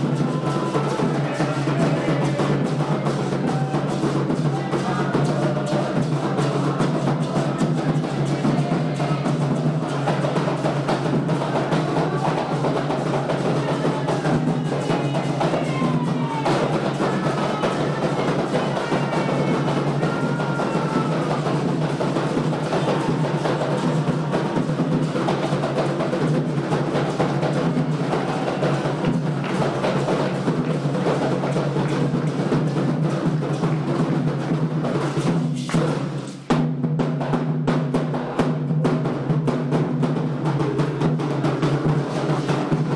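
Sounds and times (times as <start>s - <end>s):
hand drums playing dense rhythm: 0.0s - 42.9s.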